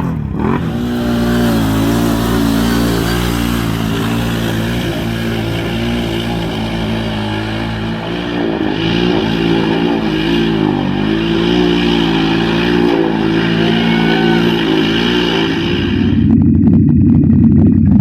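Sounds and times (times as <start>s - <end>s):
atv engine revving: 0.0s - 16.6s.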